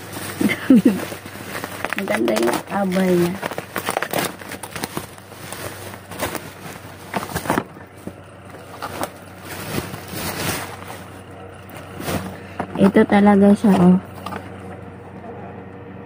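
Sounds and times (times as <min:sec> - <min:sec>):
bubble wrap crinkling: 0:00.0 - 0:14.7.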